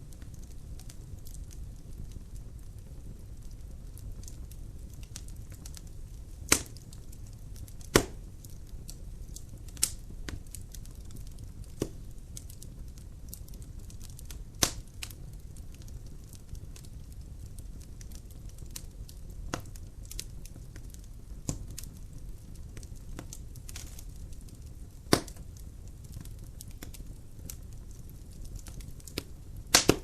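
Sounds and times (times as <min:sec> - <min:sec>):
fire crackling and popping: 0:00.0 - 0:30.0
low rumble of fire: 0:00.0 - 0:30.0.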